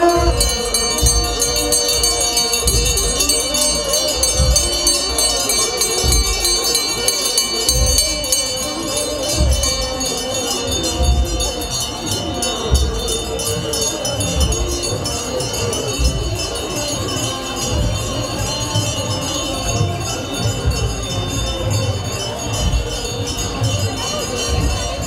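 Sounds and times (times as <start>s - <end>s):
clergy chanting: 0.0s - 25.0s
low drum beats: 0.0s - 25.0s.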